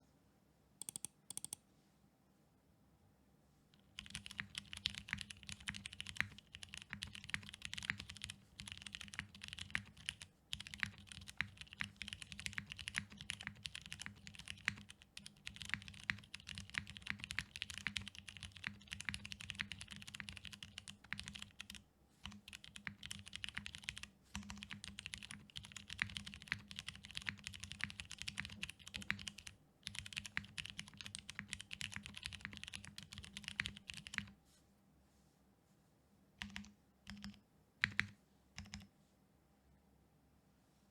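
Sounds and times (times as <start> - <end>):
mechanical keyboard typing: 0.8 - 1.6, 3.8 - 34.4, 36.4 - 38.9.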